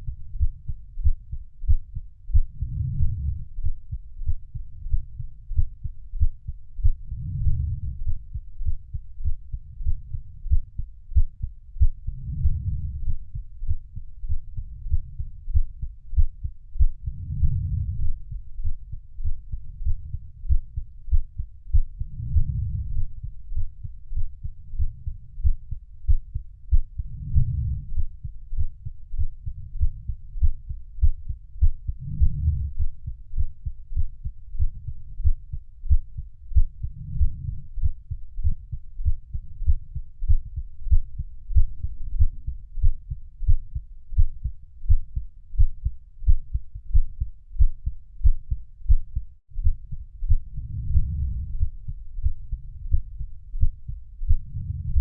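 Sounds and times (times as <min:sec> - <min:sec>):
heartbeat thuds: 0:00.0 - 0:55.0.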